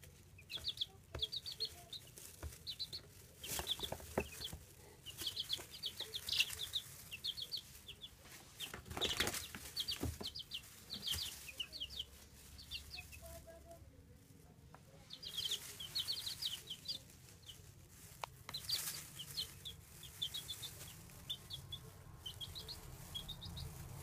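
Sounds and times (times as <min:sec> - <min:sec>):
baby chicks peeping: 0:00.0 - 0:24.0.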